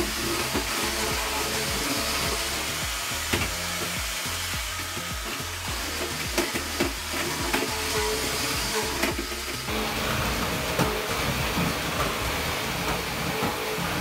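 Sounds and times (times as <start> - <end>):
music with steady beat: 0.0 - 14.0
steady rushing noise: 0.0 - 14.0.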